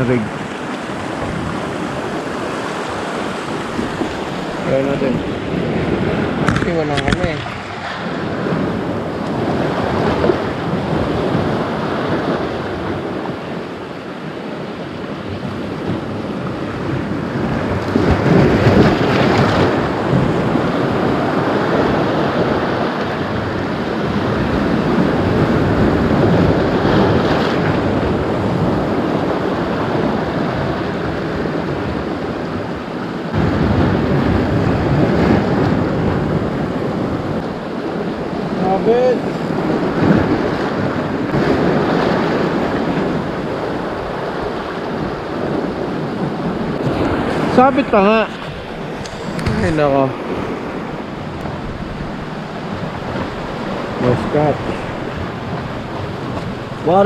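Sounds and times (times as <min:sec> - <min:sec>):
sea surf breaking: 0:00.0 - 0:57.0
wind buffeting microphone: 0:00.0 - 0:57.0.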